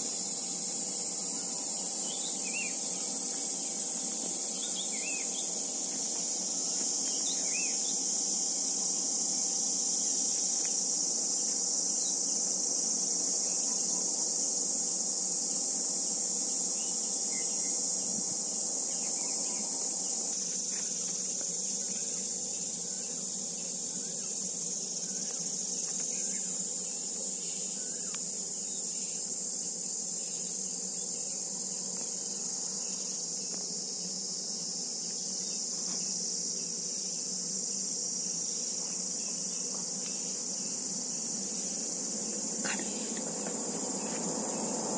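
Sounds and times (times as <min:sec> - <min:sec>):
insect chorus buzzing: 0:00.0 - 0:44.9.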